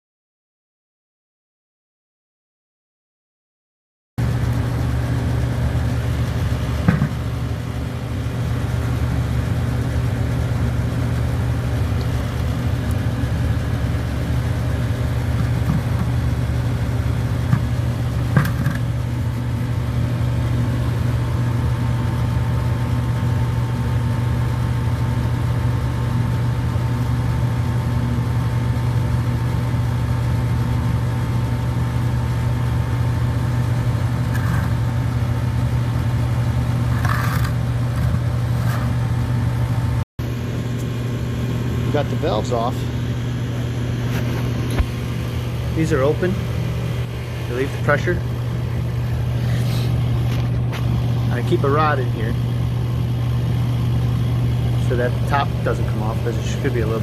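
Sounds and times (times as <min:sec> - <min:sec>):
low engine-like drone: 0:04.2 - 0:57.0.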